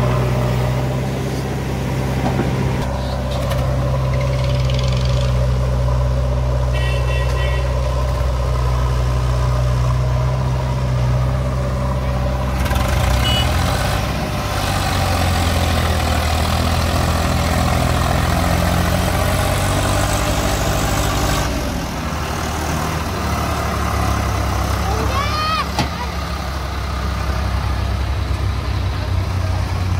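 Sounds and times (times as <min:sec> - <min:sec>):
backhoe loader working: 0:00.0 - 0:29.9
tractor diesel engine under load: 0:00.0 - 0:29.9.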